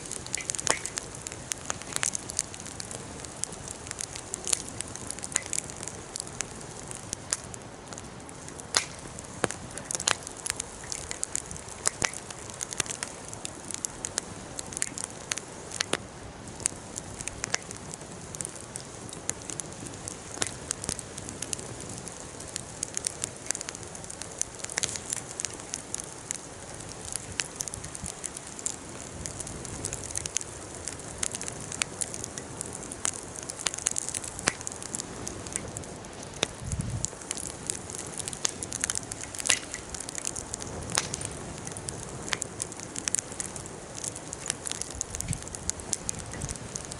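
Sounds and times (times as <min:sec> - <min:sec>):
bonfire crackling: 0:00.0 - 0:46.9.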